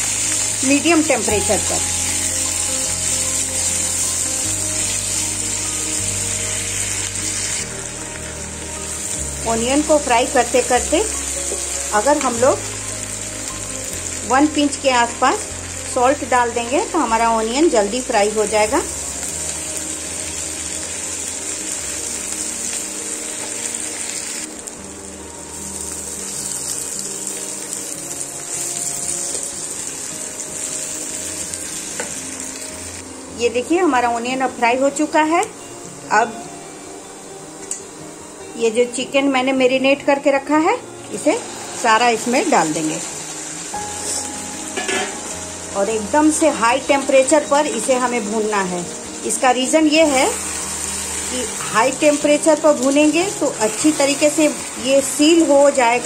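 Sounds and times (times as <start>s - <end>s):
background music low notes: 0.0s - 56.0s
onions sizzling in oil: 0.0s - 56.0s.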